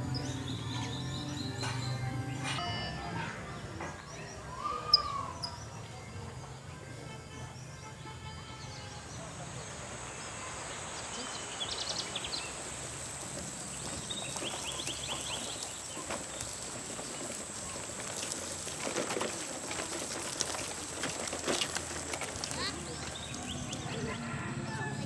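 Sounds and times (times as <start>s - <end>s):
birds chirping: 0.0s - 6.7s, 7.3s - 25.0s.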